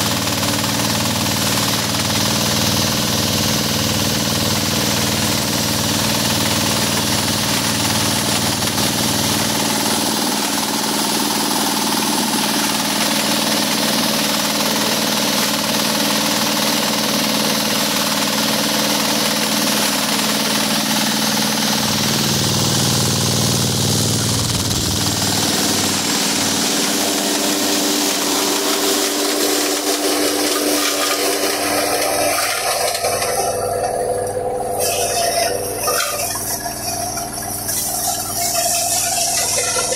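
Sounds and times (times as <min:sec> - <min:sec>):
forage chopper chopping corn: 0:00.0 - 0:39.9.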